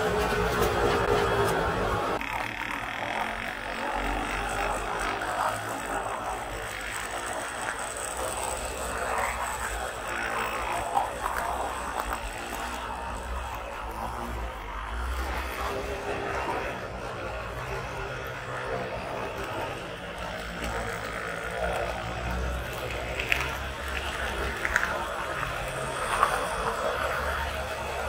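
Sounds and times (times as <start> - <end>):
model train wheels clicking on rails: 0.0 - 28.0.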